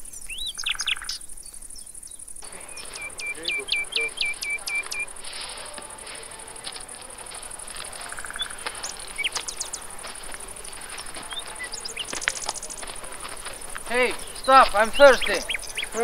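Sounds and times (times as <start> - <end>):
bird chirps: 0.0 - 16.0
insects chirring: 0.0 - 16.0
footsteps on dry leaves: 2.4 - 16.0.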